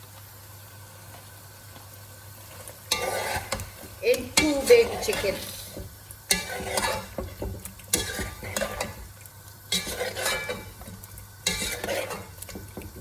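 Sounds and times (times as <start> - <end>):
chicken sizzling in a pot: 0.0 - 13.0
spoon stirring and scraping: 2.4 - 13.0.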